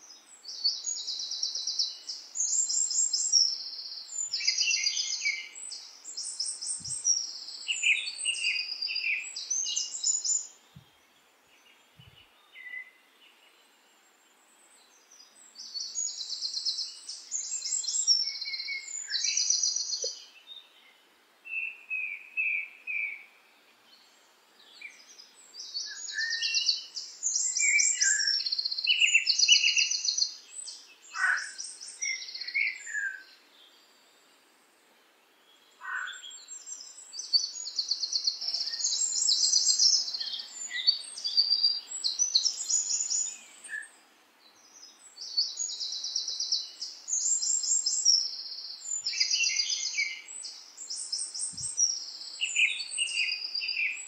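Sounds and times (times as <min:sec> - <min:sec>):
songbirds trilling and chirping: 0:00.0 - 0:54.0.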